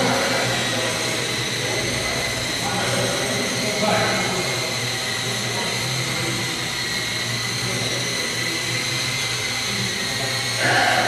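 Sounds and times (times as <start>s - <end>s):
model helicopter whine: 0.0s - 11.0s.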